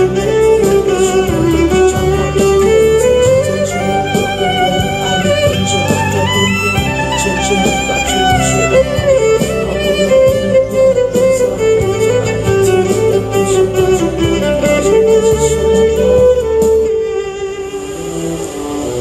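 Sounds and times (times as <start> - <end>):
backing track with bass and beat: 0.0 - 17.1
solo violin melody: 0.0 - 19.0.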